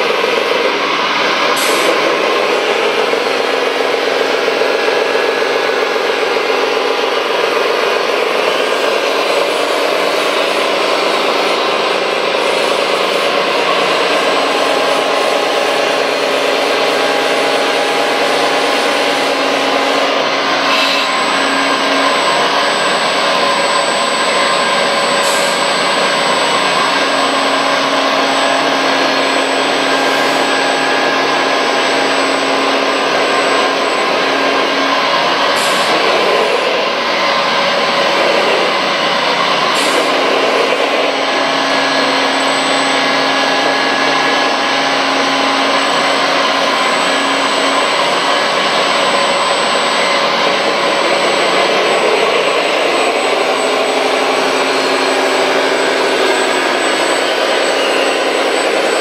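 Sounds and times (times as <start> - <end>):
electric motors whining: 0.0 - 59.0.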